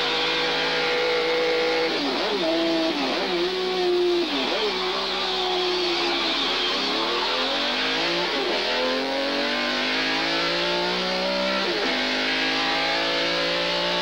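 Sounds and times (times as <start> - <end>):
guitar music: 0.0 - 14.0
vehicle engine accelerating: 0.0 - 14.0.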